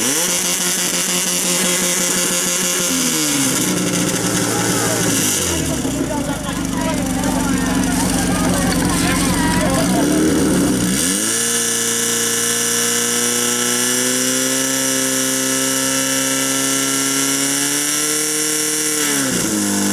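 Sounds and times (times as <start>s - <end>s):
pump engine revving: 0.0s - 19.9s.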